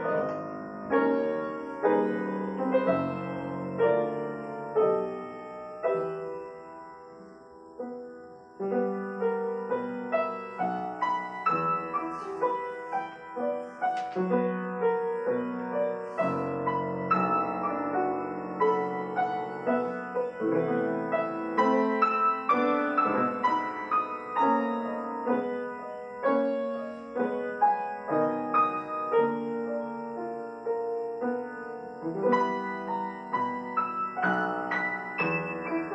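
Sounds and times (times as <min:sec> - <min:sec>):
solo piano piece: 0:00.0 - 0:35.9.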